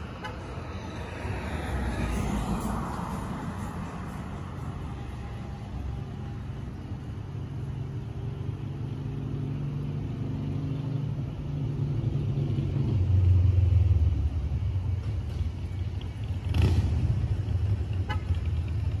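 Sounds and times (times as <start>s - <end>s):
road traffic rumble: 0.0s - 19.0s
vehicle engine hum: 0.0s - 19.0s.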